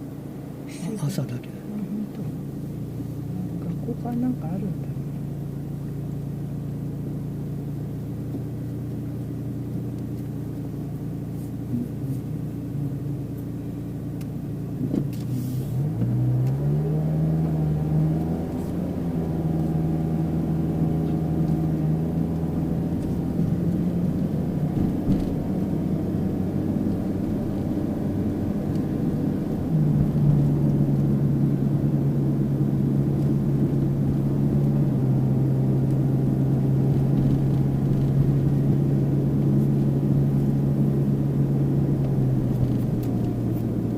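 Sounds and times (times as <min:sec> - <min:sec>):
road rumble: 0:00.0 - 0:43.9
small car engine running: 0:00.0 - 0:43.9.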